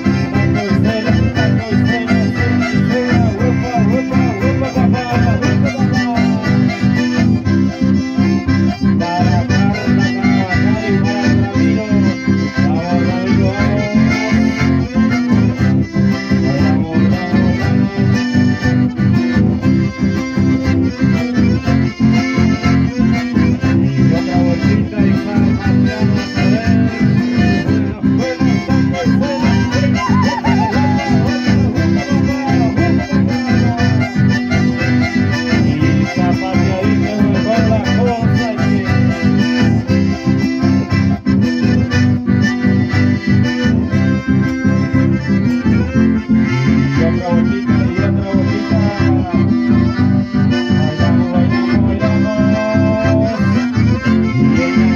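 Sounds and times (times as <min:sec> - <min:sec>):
accordions playing melody: 0:00.0 - 0:54.9
strummed acoustic guitars: 0:00.0 - 0:54.9.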